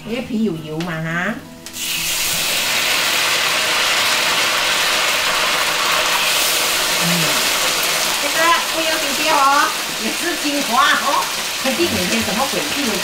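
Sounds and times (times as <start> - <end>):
chicken sizzling in hot oil: 1.7 - 13.0.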